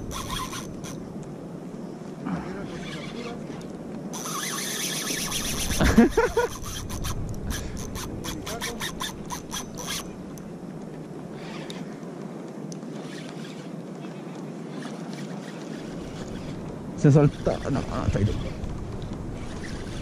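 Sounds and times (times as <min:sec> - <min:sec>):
fishing reel drag clicking and buzzing: 0:00.0 - 0:01.0, 0:02.6 - 0:10.5, 0:11.3 - 0:12.0, 0:12.6 - 0:20.0.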